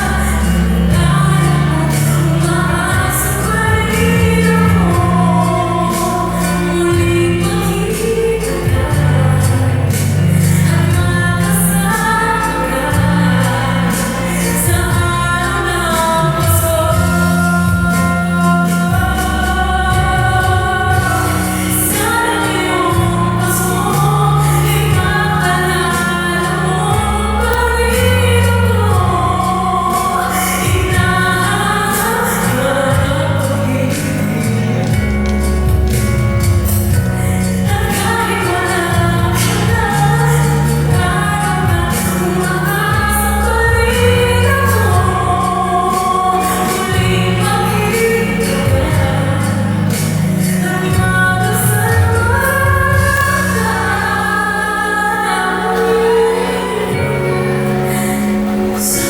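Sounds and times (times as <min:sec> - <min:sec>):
instrumental backing music: 0:00.0 - 0:59.0
woman singing slow song: 0:00.0 - 0:59.0.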